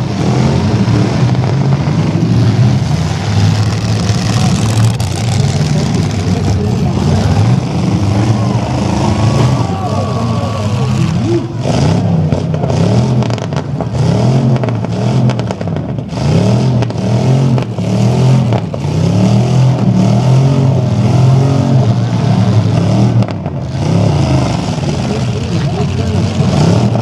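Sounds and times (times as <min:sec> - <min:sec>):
truck engines revving hard: 0:00.0 - 0:27.0.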